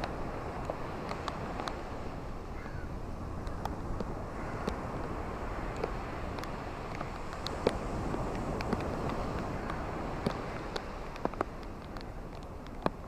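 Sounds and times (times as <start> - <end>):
ocean waves on beach: 0.0 - 13.0.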